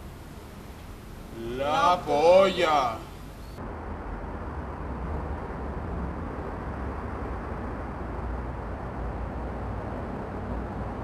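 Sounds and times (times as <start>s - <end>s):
distant city traffic: 0.0s - 11.0s.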